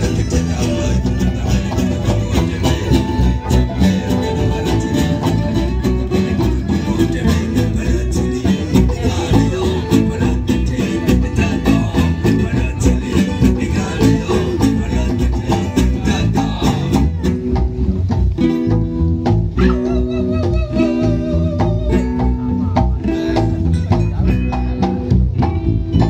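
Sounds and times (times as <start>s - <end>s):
hand drums beating: 0.0s - 26.0s
strummed guitar: 0.0s - 26.0s.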